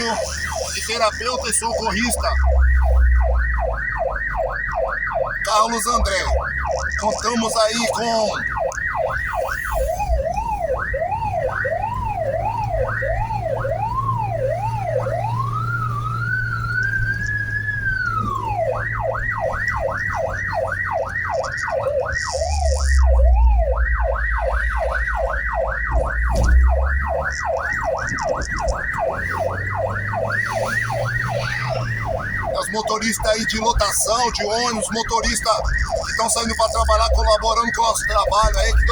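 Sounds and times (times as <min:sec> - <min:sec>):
ambulance siren: 0:00.0 - 0:38.9
vehicle low rumble: 0:00.0 - 0:38.9.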